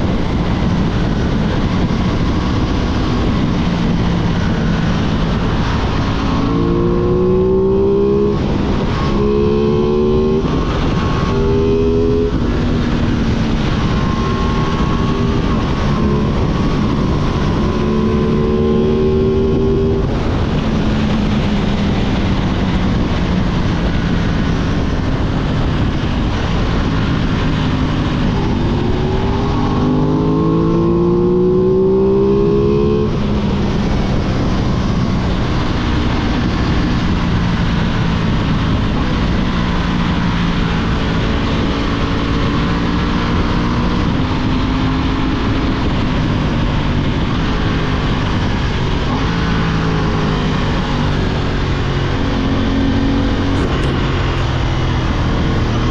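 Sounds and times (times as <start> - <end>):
motorcycle engine running: 0.0 - 55.9
wind rush: 0.0 - 55.9.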